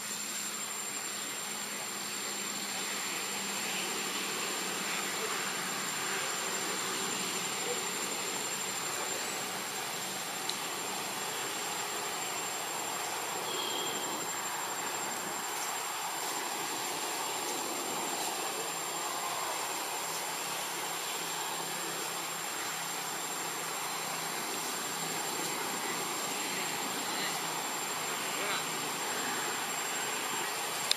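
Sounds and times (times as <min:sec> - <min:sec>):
forest background hiss: 0:00.0 - 0:30.9.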